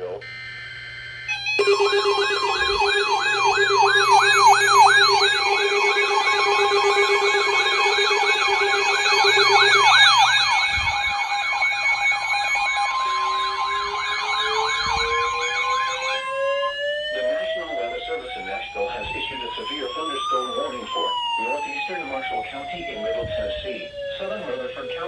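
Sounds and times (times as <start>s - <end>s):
electronic siren yelp: 0.0s - 25.0s
siren wail: 0.0s - 25.0s
steady siren tones: 0.0s - 25.0s.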